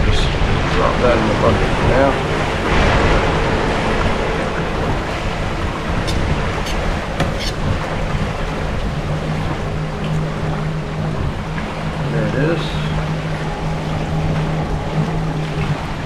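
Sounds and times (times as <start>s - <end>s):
motorboat engine drone: 0.0s - 16.0s
wind and water hiss: 0.0s - 16.0s.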